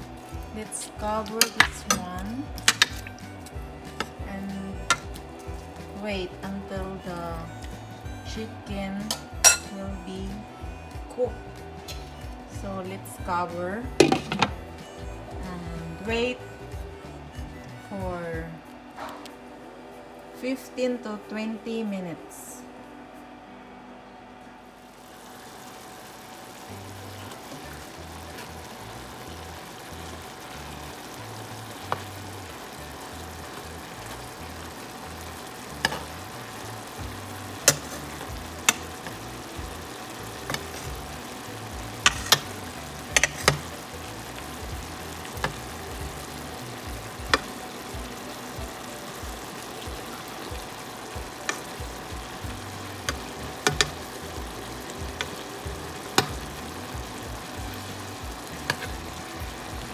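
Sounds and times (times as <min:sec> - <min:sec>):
chicken sizzling in a pan: 0:00.0 - 0:18.4, 0:24.8 - 0:59.9.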